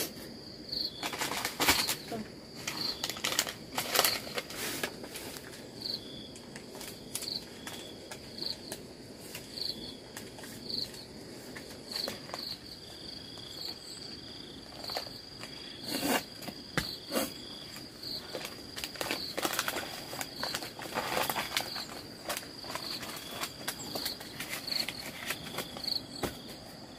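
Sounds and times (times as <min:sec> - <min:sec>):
insect chirping: 0:00.0 - 0:26.9
crunching rustles: 0:00.8 - 0:26.9.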